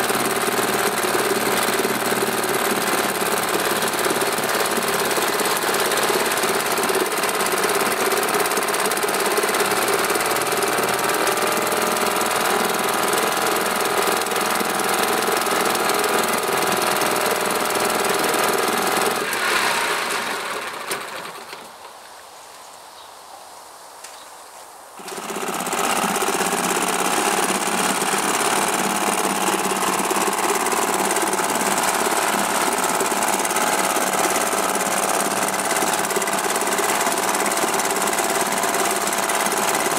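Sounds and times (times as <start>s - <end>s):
outboard motor running: 0.0s - 21.1s, 25.0s - 39.9s.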